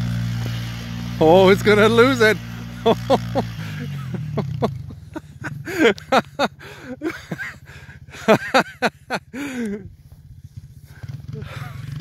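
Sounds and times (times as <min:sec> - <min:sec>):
distant atv engine running: 0:00.0 - 0:12.0.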